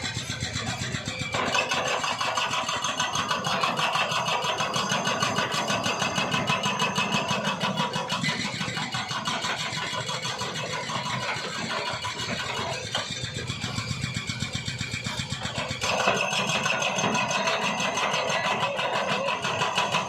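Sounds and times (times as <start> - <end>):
small engine chugging: 0.0 - 20.0.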